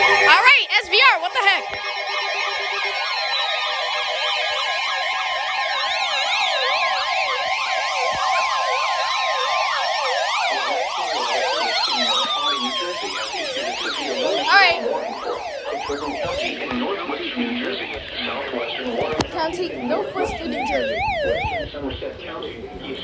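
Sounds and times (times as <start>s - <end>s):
electronic siren tones wailing: 0.0s - 22.4s.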